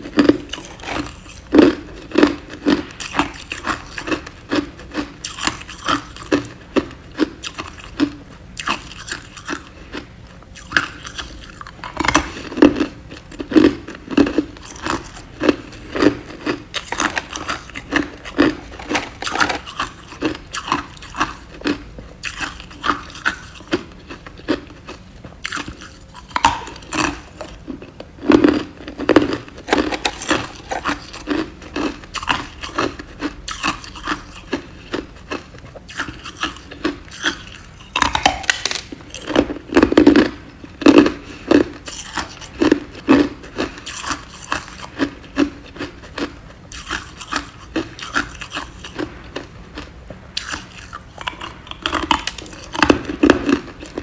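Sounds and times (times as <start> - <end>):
person chewing ice cubes: 0.0 - 54.0.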